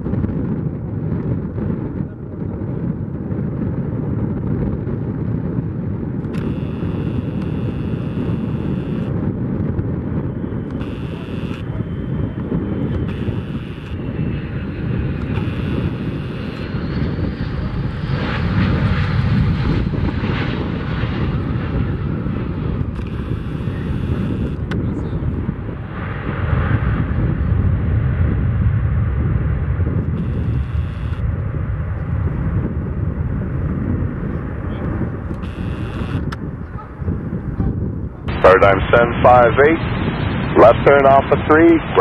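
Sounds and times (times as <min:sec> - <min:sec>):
wind buffeting microphone: 0:00.0 - 0:42.0
jet engines whining: 0:06.3 - 0:37.6, 0:38.2 - 0:42.0.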